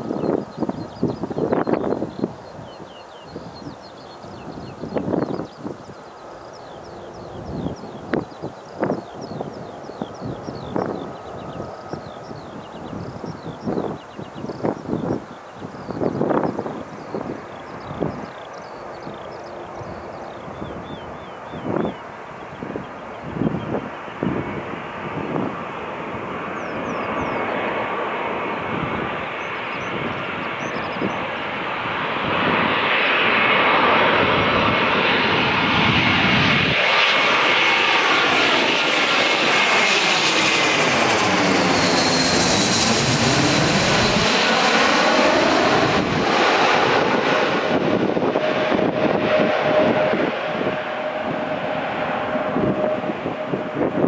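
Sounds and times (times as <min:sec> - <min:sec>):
jet airliner passing overhead: 0:00.0 - 0:54.0.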